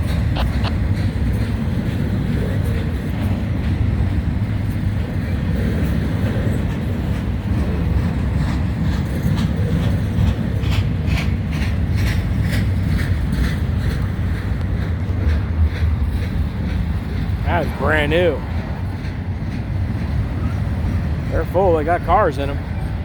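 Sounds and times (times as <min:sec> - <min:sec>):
freight train rumbling: 0:00.0 - 0:23.0
wheels clicking over rail joints: 0:00.0 - 0:23.0.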